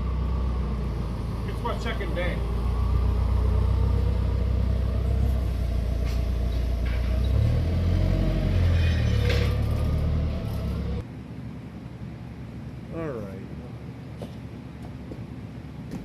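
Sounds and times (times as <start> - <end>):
forklift engine rumbling: 0.0 - 15.8.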